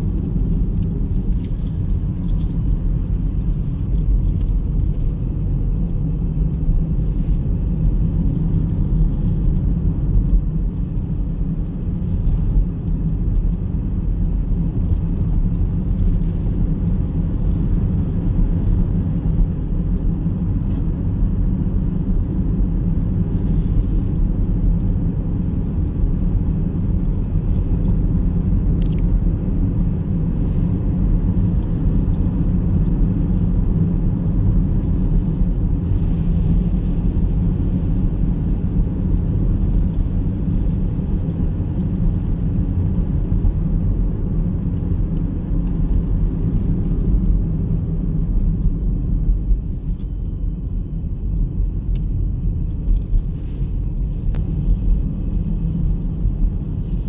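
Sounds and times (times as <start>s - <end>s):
car cabin engine and tyre rumble: 0.0s - 57.0s.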